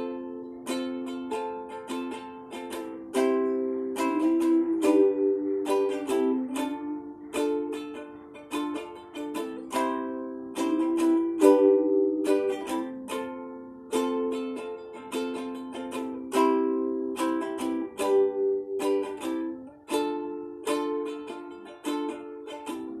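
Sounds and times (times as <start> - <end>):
strummed string instrument chords: 0.0 - 23.0.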